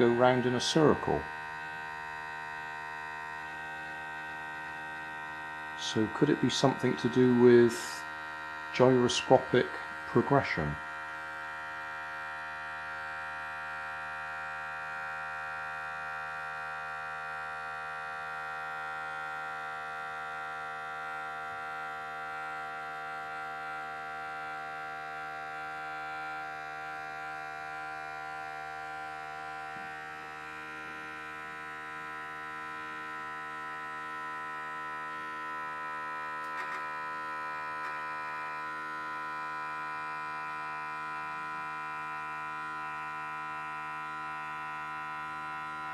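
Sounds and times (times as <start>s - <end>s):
vibration motor buzzing in foil tray: 0.0s - 45.9s.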